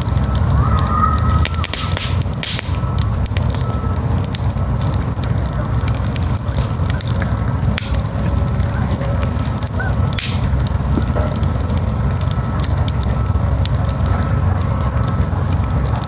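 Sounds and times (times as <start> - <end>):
campfire crackling: 0.0 - 16.0
low rumble: 0.0 - 16.0
sharp pops from burning wood: 0.0 - 16.0.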